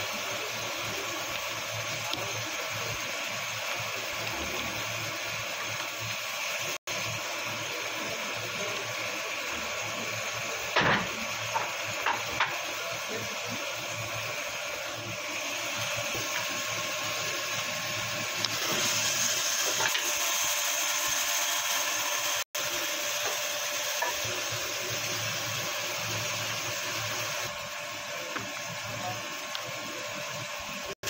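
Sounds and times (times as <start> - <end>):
whirring machine: 0.0 - 31.0.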